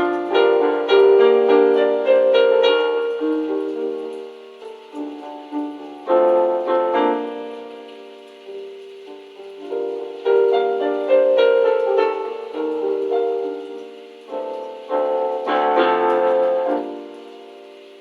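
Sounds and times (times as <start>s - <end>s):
solo piano: 0.0s - 18.0s.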